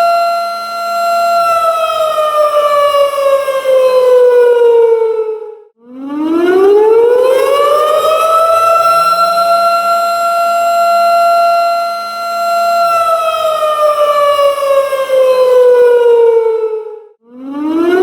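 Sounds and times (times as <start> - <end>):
tornado siren wailing: 0.0 - 18.0.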